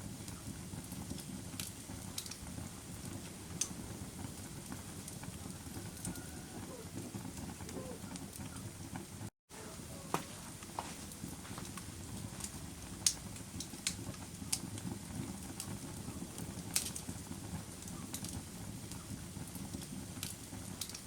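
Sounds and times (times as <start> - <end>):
campfire crackling and popping: 0.0 - 21.0
low rush of burning: 0.0 - 21.0.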